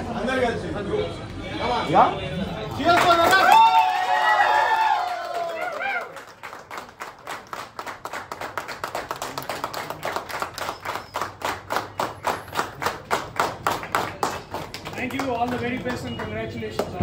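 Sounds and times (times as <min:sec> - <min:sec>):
people clapping in rhythm: 0:02.8 - 0:17.0.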